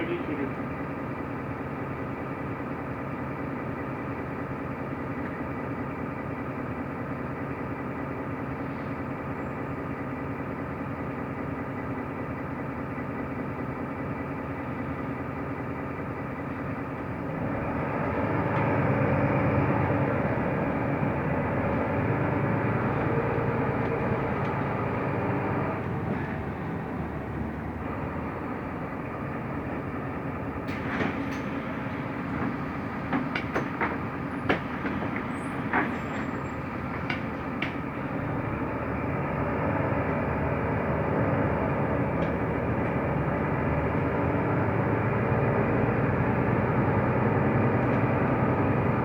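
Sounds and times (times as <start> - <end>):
bus engine and road noise: 0.0 - 49.0.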